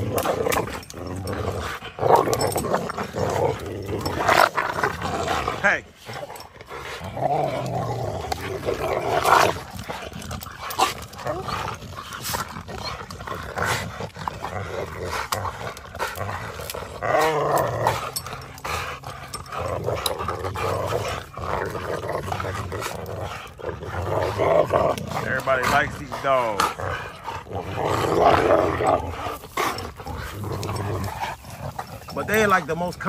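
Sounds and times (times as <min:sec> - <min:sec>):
dogs growling: 0:00.0 - 0:33.0.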